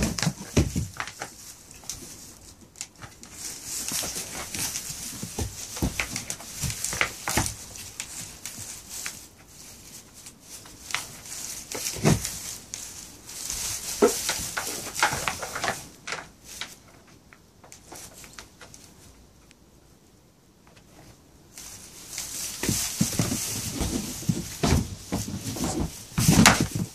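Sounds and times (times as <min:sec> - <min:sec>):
hooves shuffling through straw: 0:00.0 - 0:17.1, 0:20.9 - 0:26.9.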